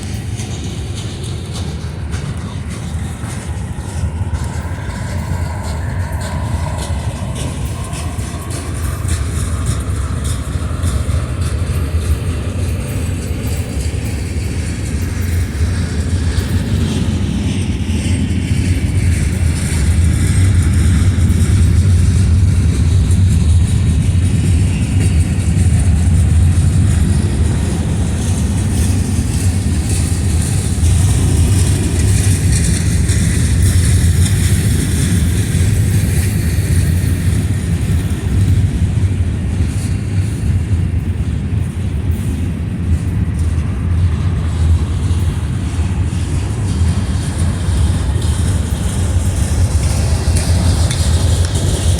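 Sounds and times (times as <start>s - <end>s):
freight train rumbling past: 0.0s - 51.9s
hiss from train wheels: 0.0s - 51.9s.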